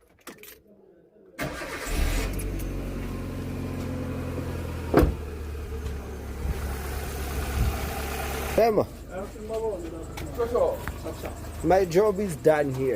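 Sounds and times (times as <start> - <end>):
car engine idling: 2.4 - 12.9.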